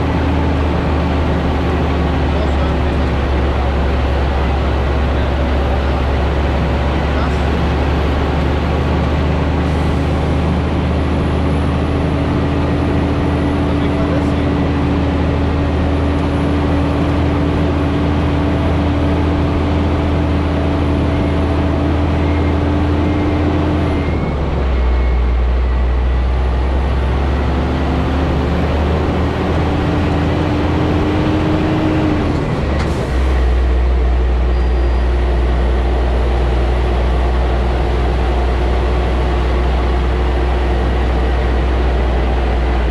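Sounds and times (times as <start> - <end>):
diesel truck engine drone: 0.0 - 42.9.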